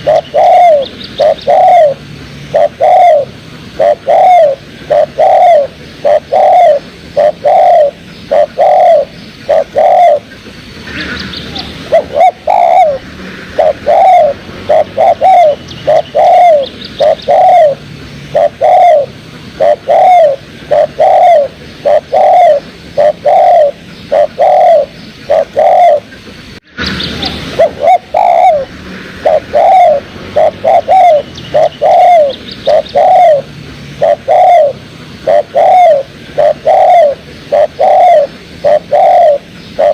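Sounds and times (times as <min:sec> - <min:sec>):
dove cooing: 0:00.0 - 0:26.2, 0:27.2 - 0:39.9.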